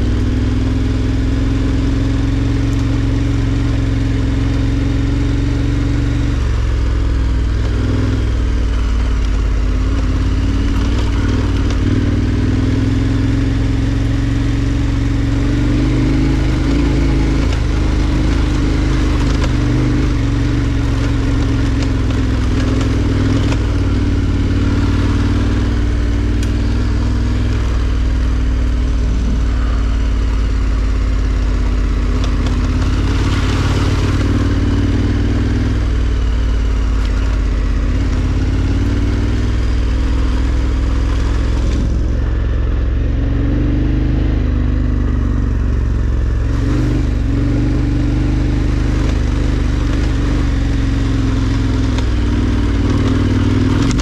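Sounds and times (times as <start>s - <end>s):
motorcycle knocking and rattling: 0.0s - 43.1s, 44.8s - 54.0s
motorcycle engine pulling at low revs: 0.0s - 54.0s.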